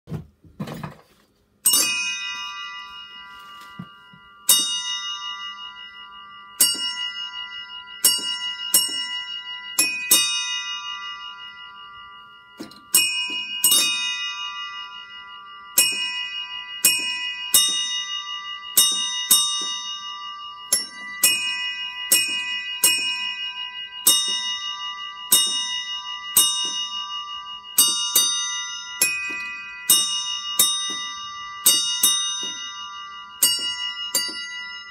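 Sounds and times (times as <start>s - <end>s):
metal bells ringing: 1.6s - 34.9s.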